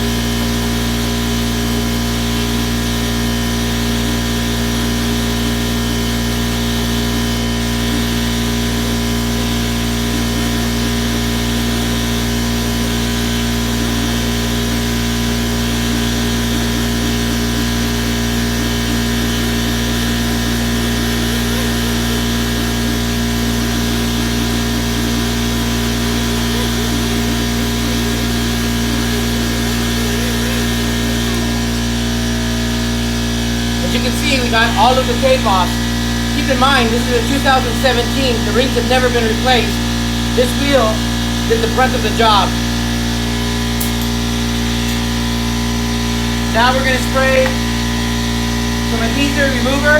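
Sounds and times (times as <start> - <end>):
air-powered angle grinder running: 0.0 - 49.9.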